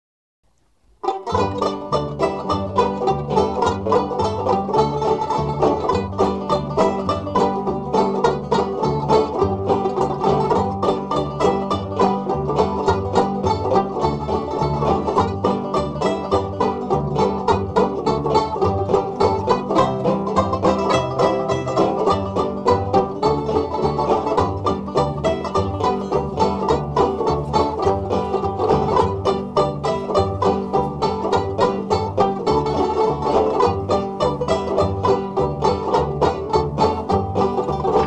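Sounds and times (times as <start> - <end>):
plucked strings music with bass: 1.0 - 38.0.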